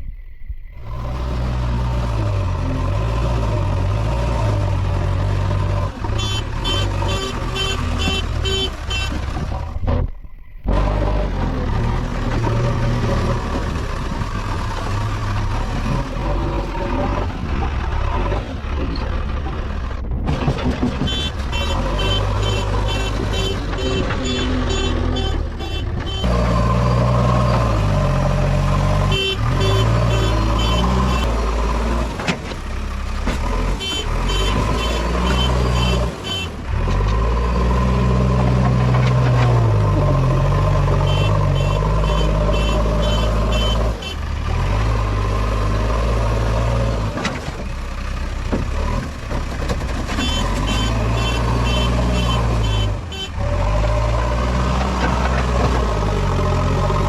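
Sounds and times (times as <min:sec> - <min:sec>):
diesel engine revving: 0:00.8 - 0:57.0.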